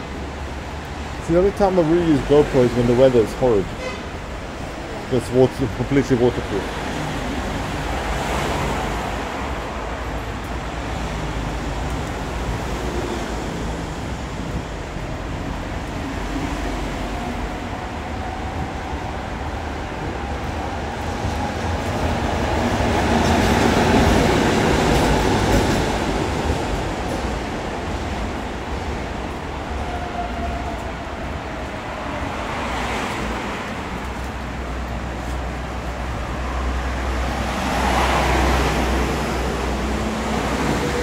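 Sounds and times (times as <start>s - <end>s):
rail vehicle rumbling on rails: 0.0s - 41.0s.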